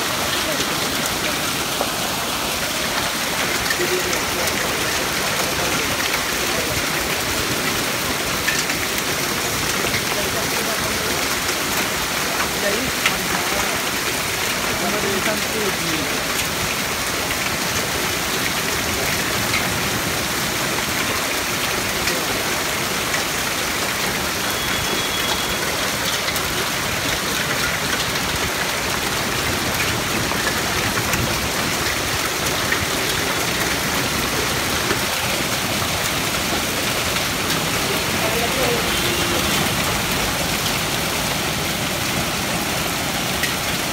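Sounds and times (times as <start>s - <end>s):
hailstones ticking: 0.0s - 43.9s
heavy rain on pavement: 0.0s - 43.9s.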